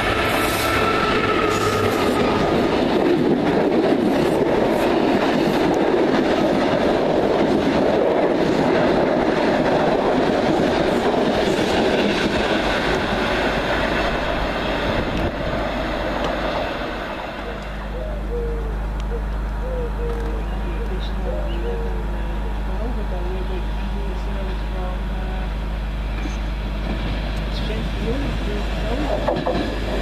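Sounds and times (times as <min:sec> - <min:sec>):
train passing at speed: 0:00.0 - 0:30.0.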